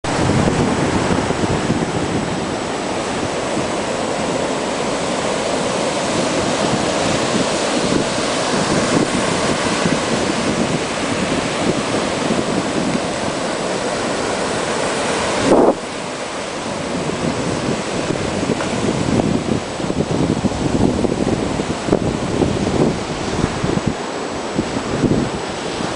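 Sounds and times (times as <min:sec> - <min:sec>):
surf washing up a beach: 0:00.0 - 0:25.9
wind buffeting microphone: 0:00.0 - 0:25.9.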